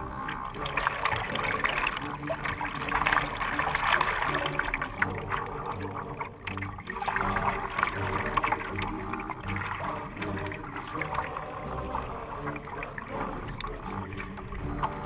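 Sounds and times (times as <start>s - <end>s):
water splashing and lapping: 0.0s - 15.0s.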